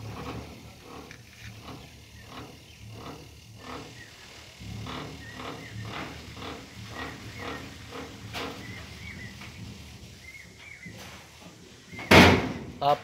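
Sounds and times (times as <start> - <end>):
hydraulic bed humming: 0.0 - 13.0.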